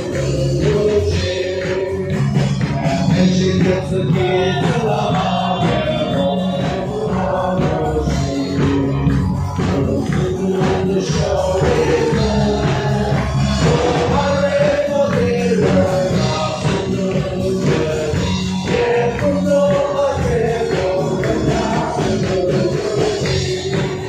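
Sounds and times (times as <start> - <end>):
acoustic guitar: 0.0 - 24.0
congregation singing: 0.0 - 24.0
rhythmic hand-clapping: 0.0 - 24.0.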